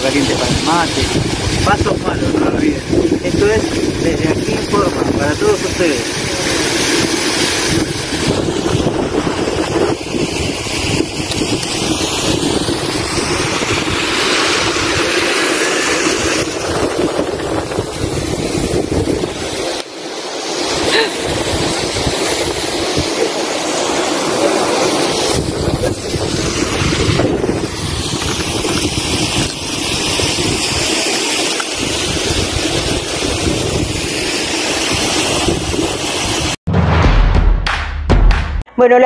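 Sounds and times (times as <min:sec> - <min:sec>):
wind buffeting microphone: 0:00.0 - 0:19.8, 0:20.7 - 0:23.3, 0:24.7 - 0:30.9, 0:31.8 - 0:36.6
waterfall rushing: 0:00.0 - 0:36.6.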